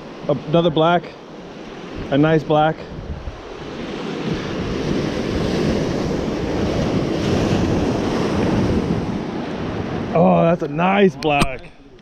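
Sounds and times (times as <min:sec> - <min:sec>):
wind buffeting microphone: 0:01.5 - 0:12.0.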